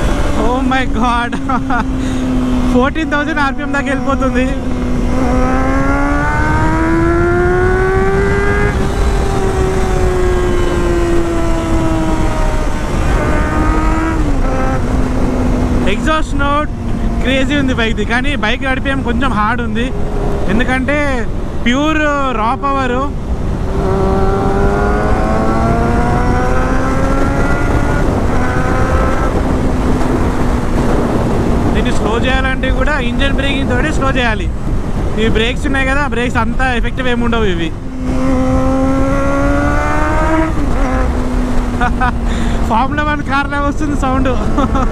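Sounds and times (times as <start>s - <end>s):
motorcycle engine at high revs: 0.0s - 34.1s, 37.3s - 44.9s
low wind rumble: 0.0s - 44.9s
steady rushing noise: 0.0s - 44.9s.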